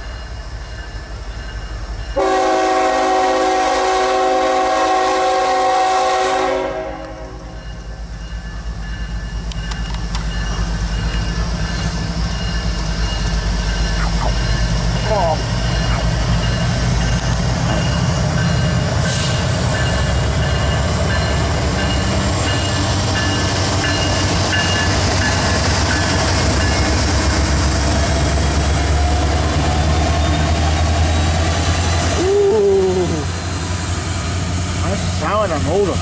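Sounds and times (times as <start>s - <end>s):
diesel locomotives rumbling: 0.0s - 36.0s.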